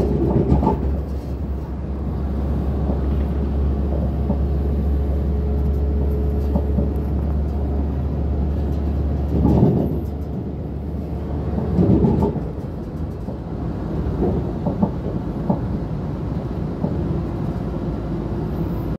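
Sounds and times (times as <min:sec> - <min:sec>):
wheels clattering over track: 0:00.0 - 0:17.2
train rumbling: 0:00.0 - 0:18.9.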